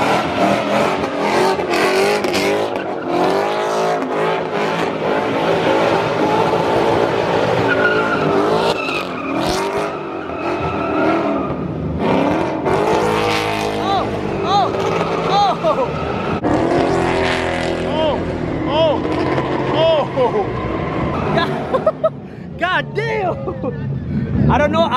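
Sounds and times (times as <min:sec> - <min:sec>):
car engine revving hard: 0:00.0 - 0:21.7.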